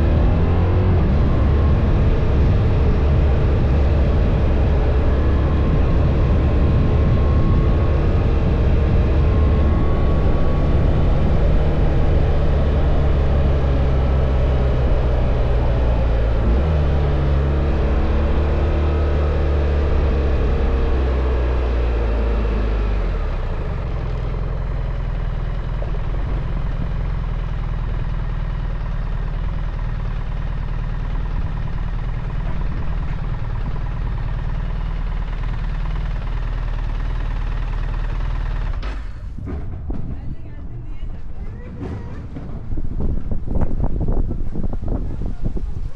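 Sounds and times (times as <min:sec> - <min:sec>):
motorcycle engine running: 0:00.0 - 0:45.8.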